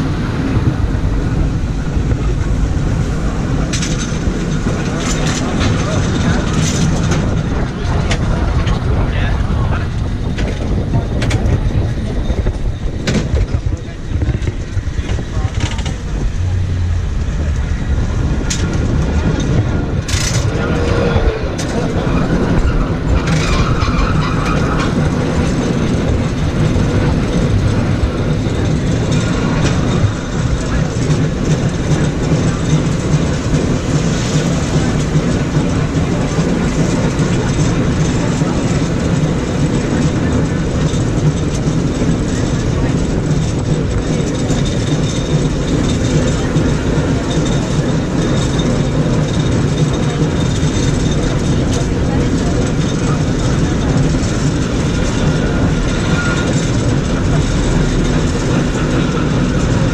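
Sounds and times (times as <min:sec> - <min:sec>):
cable car rumbling: 0:00.0 - 0:59.9.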